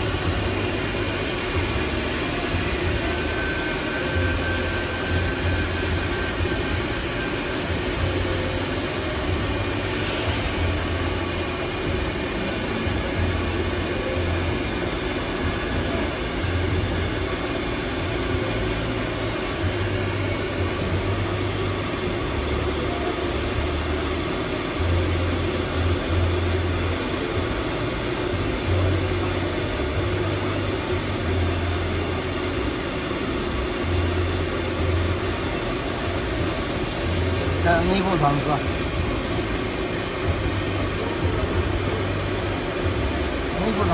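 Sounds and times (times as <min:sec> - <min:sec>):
cutting machine running: 0:00.0 - 0:43.9
low machine hum: 0:00.0 - 0:43.9.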